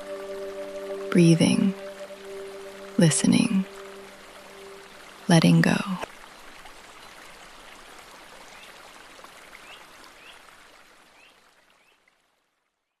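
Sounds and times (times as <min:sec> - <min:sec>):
steady rainfall: 0:00.0 - 0:12.7.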